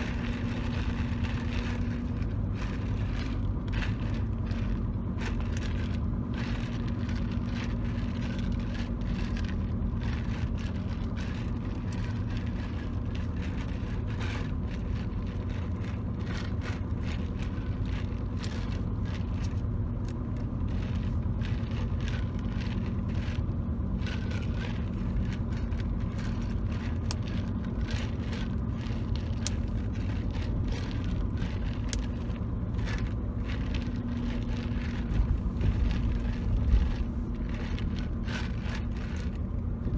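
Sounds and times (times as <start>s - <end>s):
car rumbling from inside cabin: 0.0s - 39.9s
fingertips tapping car interior: 0.0s - 39.9s.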